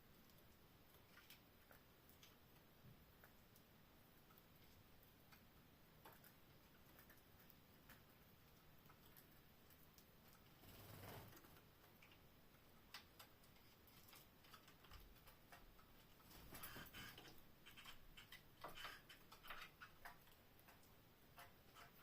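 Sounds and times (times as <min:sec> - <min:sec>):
canaries clicking and tapping: 0:00.1 - 0:22.0.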